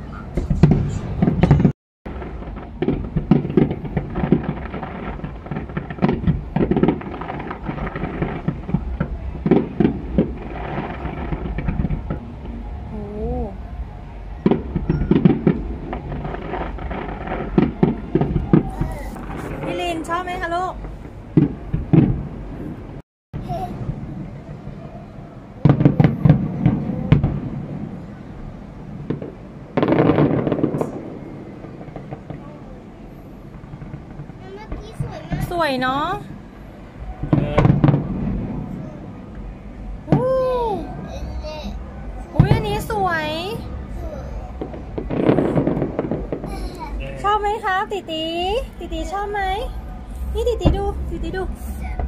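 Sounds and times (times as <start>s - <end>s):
distant fireworks bursting: 0.0s - 52.0s
steady low rumble: 0.0s - 52.0s.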